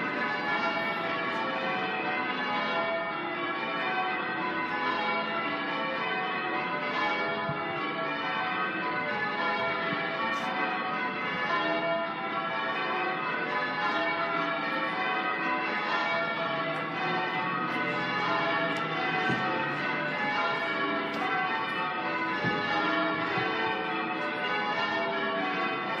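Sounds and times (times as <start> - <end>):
church bells change ringing: 0.0 - 26.0.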